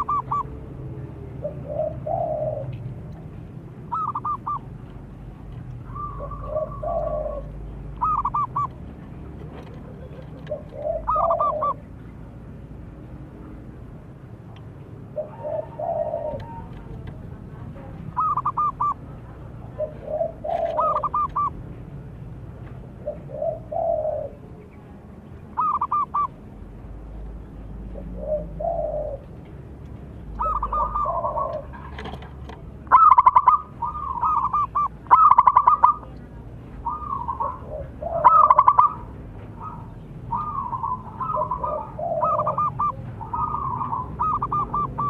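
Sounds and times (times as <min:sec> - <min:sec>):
doves cooing: 0:00.0 - 0:12.0, 0:15.1 - 0:21.8, 0:23.0 - 0:24.6, 0:25.5 - 0:26.4, 0:27.6 - 0:45.0.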